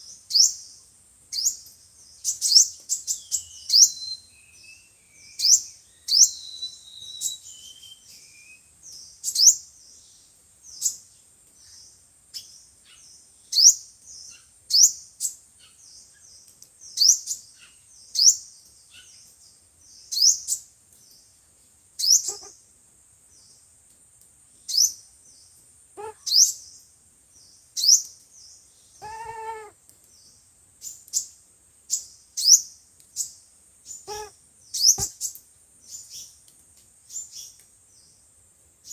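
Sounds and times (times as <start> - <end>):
bird chirping: 0.0 - 21.4, 22.0 - 22.6, 24.6 - 36.4.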